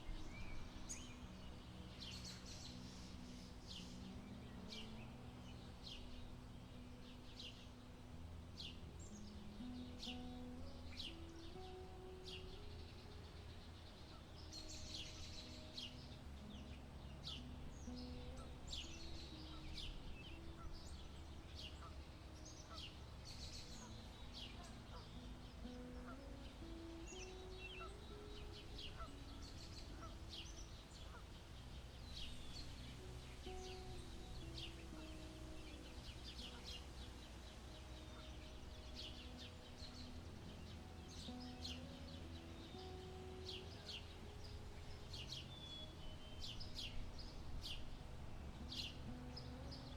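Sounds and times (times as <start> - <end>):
small birds chirping: 0.0 - 49.9
soft held low tones: 0.0 - 49.9.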